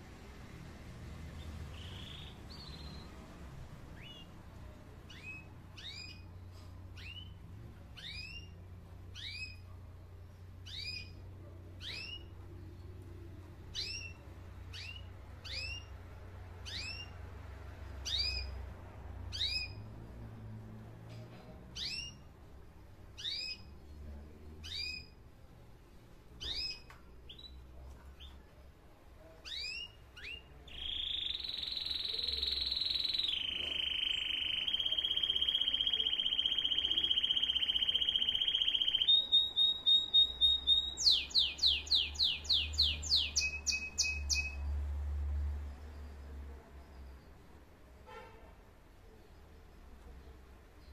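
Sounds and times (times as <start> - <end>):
canary singing: 1.2 - 20.3, 21.8 - 25.5, 26.4 - 47.6.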